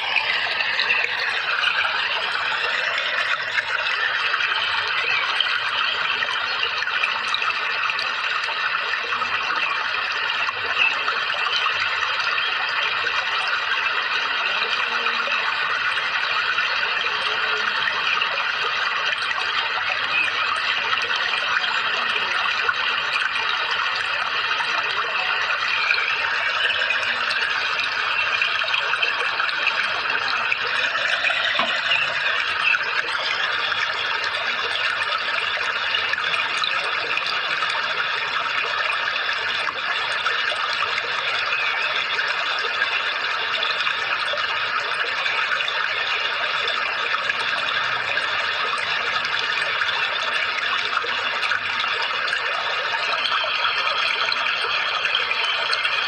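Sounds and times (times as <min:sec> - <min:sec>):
running water pouring: 0:00.0 - 0:56.0.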